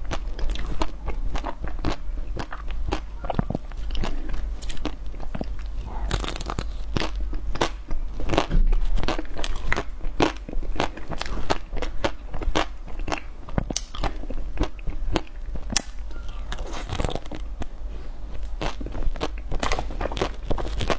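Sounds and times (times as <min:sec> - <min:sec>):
wet chewing: 0:00.0 - 0:17.7
ice cream shell crunching: 0:00.0 - 0:17.8, 0:18.4 - 0:20.9.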